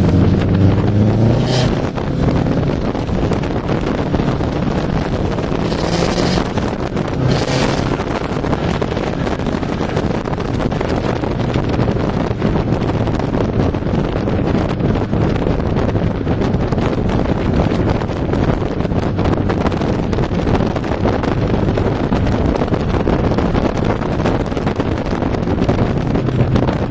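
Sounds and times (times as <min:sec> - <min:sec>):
car engine and road noise: 0:00.0 - 0:26.9
wind buffeting microphone: 0:00.0 - 0:26.9.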